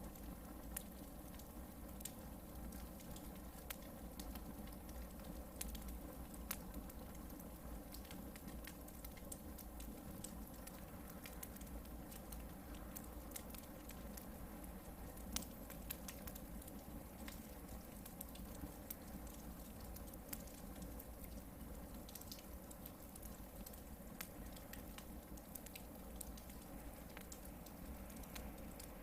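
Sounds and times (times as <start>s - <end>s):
campfire crackling and popping: 0.0s - 29.0s
low fire hiss: 0.0s - 29.0s.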